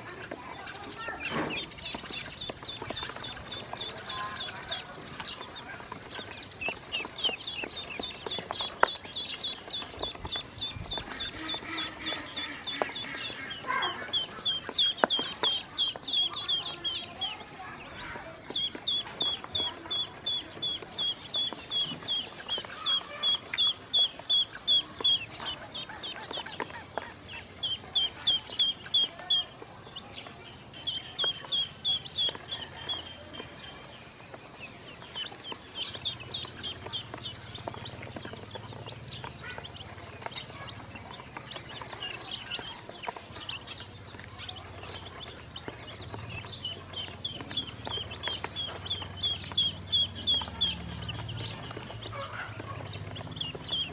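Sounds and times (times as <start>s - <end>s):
chicks and ducklings peeping: 0.0s - 53.9s.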